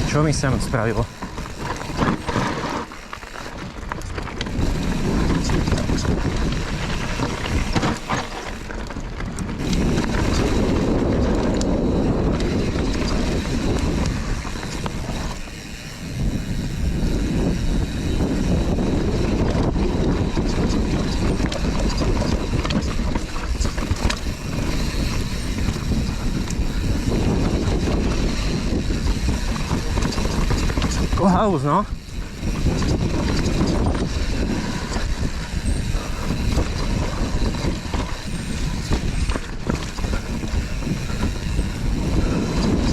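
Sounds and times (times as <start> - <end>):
bike knocks and rattles: 0.0 - 42.9
bike tyres rumbling on dirt: 0.0 - 42.9
wind buffeting microphone: 0.0 - 42.9.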